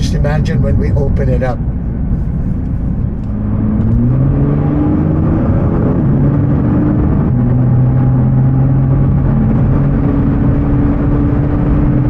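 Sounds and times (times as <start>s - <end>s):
car engine from inside cabin: 0.0s - 12.0s
road rumble: 0.0s - 12.0s.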